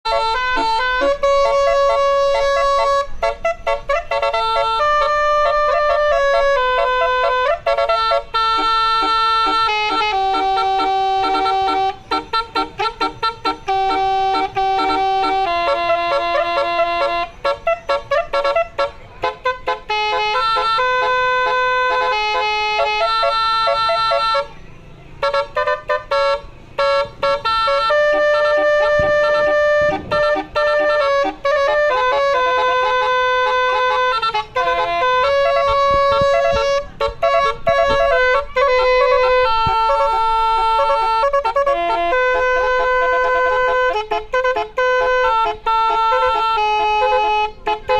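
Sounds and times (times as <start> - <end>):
musical air horn melody: 0.1 - 24.6, 25.2 - 47.9.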